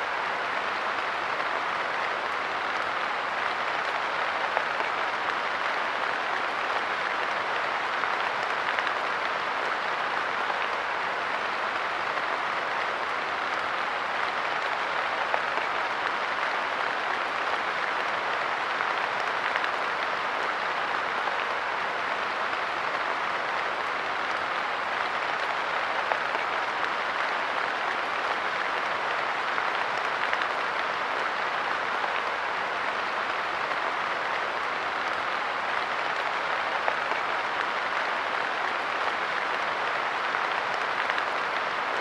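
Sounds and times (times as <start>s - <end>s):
light rain pattering: 0.0s - 42.0s.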